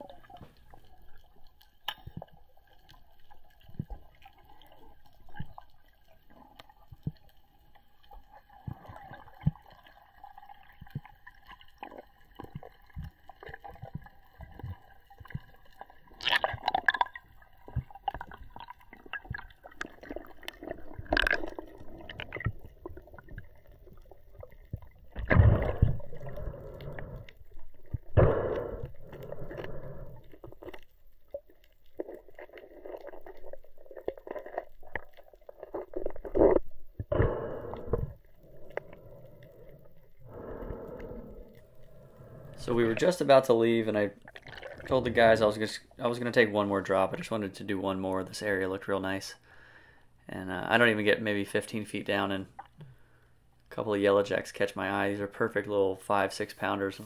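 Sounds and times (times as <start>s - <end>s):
underwater clicks and gurgles: 0.0s - 57.0s.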